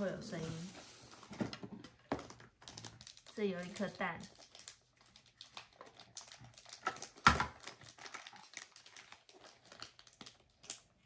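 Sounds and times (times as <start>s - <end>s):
crinkling: 0.0s - 11.0s.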